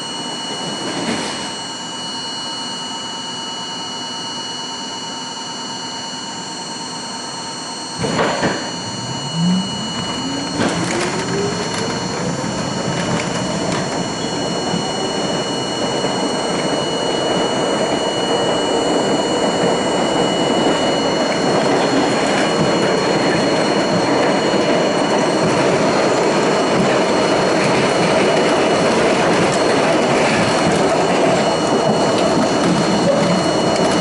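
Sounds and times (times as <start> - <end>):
subway wheels on rails: 0.0 - 3.0, 6.9 - 34.0.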